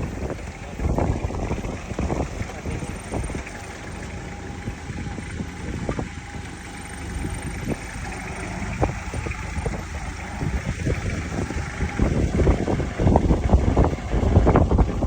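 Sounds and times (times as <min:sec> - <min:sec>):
jeep engine running: 0:00.0 - 0:15.0.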